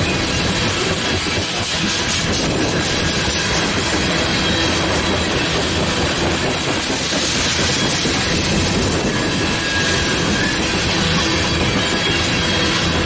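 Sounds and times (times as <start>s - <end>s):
train wheels rumbling and clattering: 0.0s - 13.0s.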